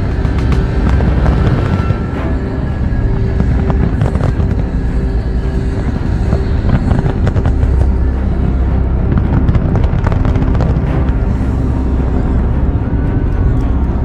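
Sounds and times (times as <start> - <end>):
fireworks bangs and crackles: 0.0 - 12.4
fireworks rumble: 0.0 - 14.0
music: 0.0 - 14.0.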